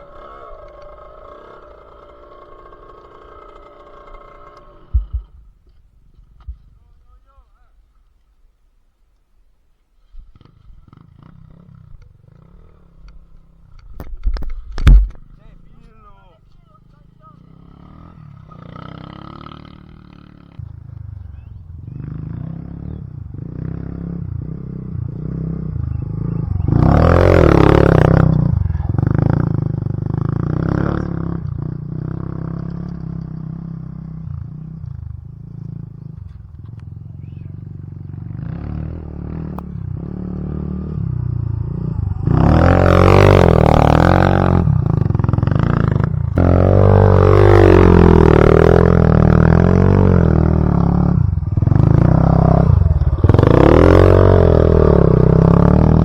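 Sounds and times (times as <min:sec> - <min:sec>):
dirt bike engine revving: 0:00.0 - 0:06.6, 0:10.3 - 0:56.0.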